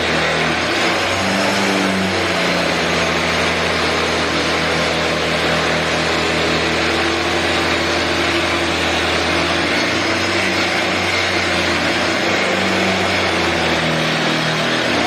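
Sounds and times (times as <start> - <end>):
angle grinder grinding concrete: 0.0 - 15.0.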